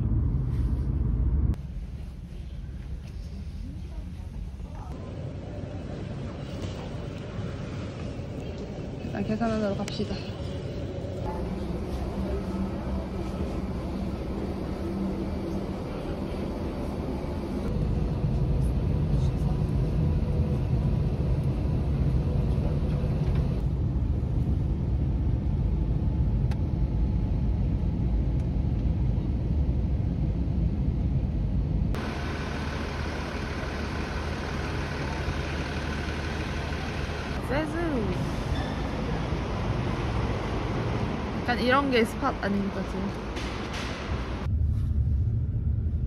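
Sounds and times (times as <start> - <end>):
road traffic noise: 0.0 - 24.8, 31.7 - 44.6
airliner cabin rumble: 0.0 - 46.0.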